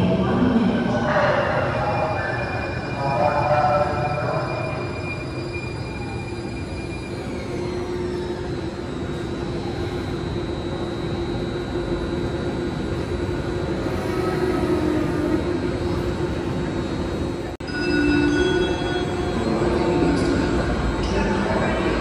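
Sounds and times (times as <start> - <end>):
train electric hum and rumble: 0.0 - 22.0.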